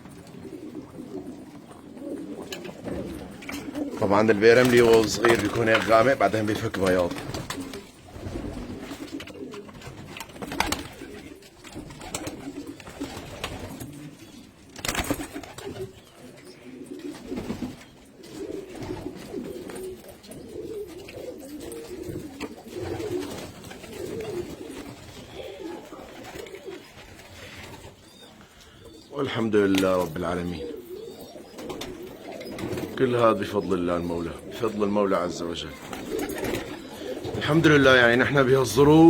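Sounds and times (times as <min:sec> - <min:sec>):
pigeons cooing: 0:00.0 - 0:39.0.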